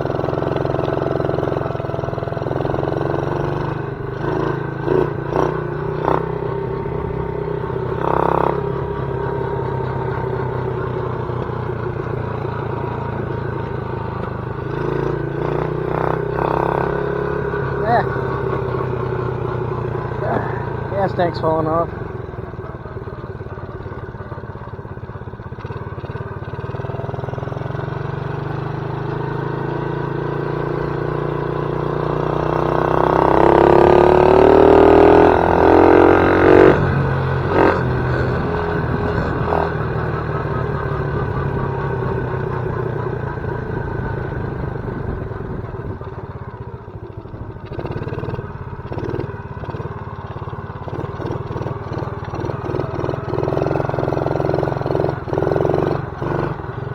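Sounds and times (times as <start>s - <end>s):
small atv engine running: 0.0s - 56.9s.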